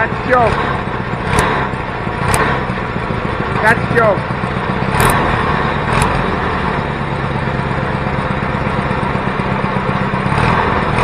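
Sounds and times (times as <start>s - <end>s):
twin-cylinder engine running: 0.0s - 11.0s.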